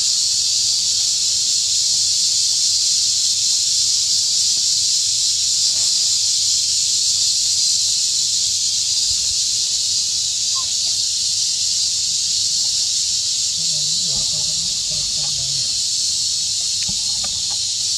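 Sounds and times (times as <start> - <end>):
insects droning: 0.0 - 17.9.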